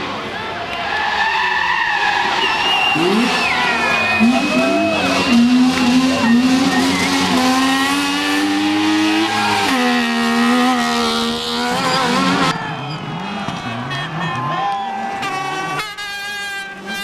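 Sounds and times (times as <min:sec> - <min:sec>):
race car engine at high revs: 0:02.2 - 0:15.9.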